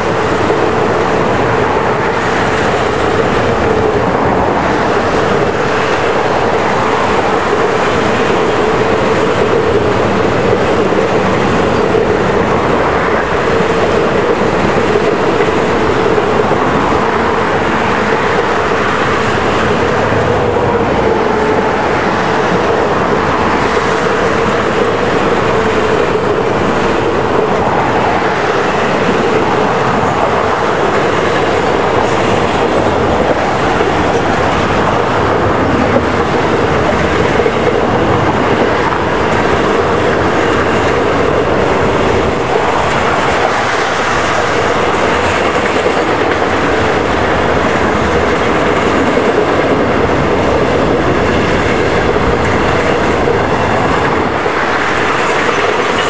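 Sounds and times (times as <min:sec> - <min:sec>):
train wheels rolling on rails: 0:00.0 - 0:56.0
wind buffeting microphone: 0:00.0 - 0:56.0.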